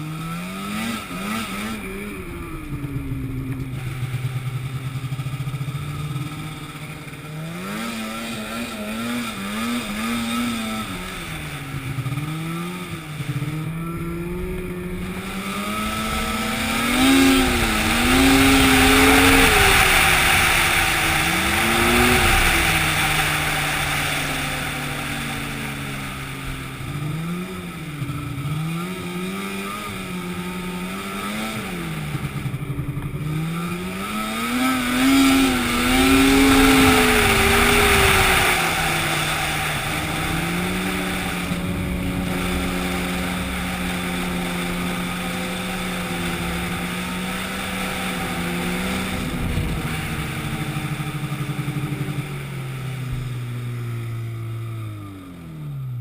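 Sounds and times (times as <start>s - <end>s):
engine speed rising and falling: 0.0s - 56.0s.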